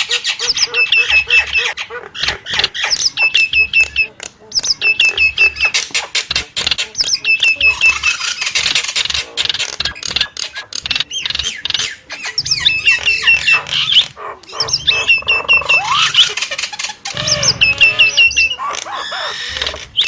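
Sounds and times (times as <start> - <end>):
bird clicks and squawks: 0.0 - 20.0
starling whistled calls: 0.0 - 20.0.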